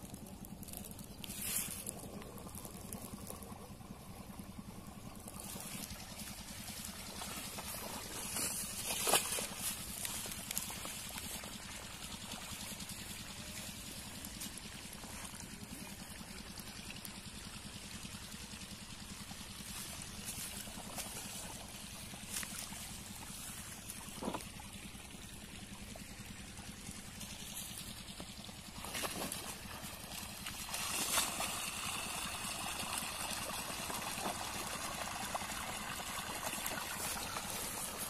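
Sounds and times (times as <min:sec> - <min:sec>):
water pouring from pipe: 0:00.0 - 0:38.0.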